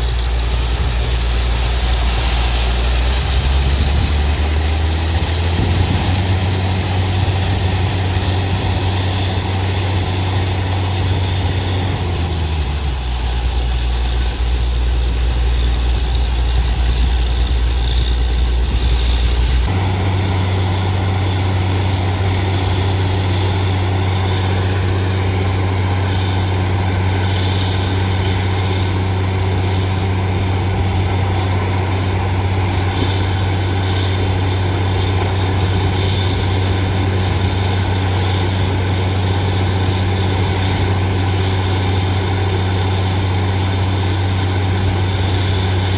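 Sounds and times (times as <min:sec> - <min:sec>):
drilling rig engine humming: 0:00.0 - 0:45.9.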